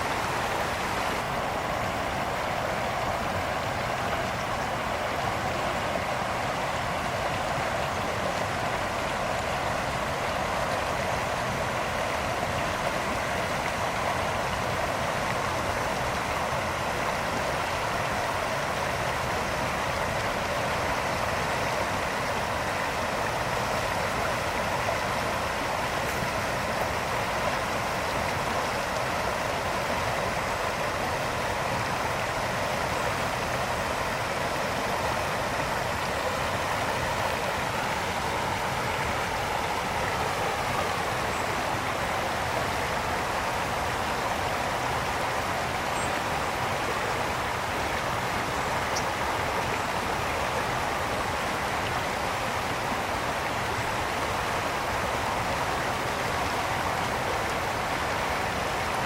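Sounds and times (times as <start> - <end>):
brook flowing over rocks: 0.0 - 59.0.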